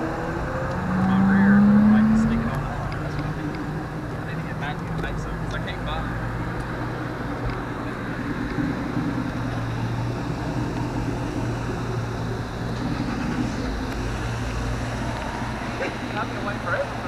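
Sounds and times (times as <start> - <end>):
truck engine idling: 2.5 - 17.0.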